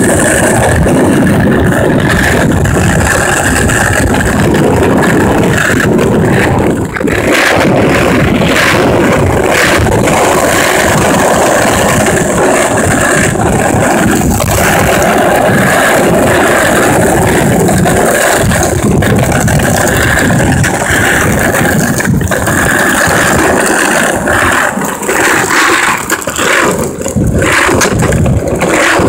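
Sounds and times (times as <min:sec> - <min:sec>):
wheels rolling over asphalt: 0:00.0 - 0:29.0.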